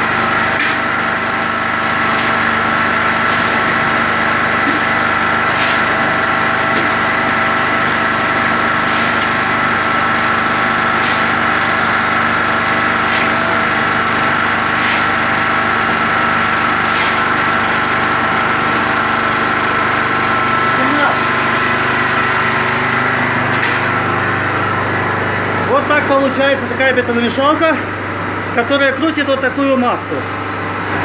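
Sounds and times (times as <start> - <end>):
concrete mixer running: 0.0 - 31.0.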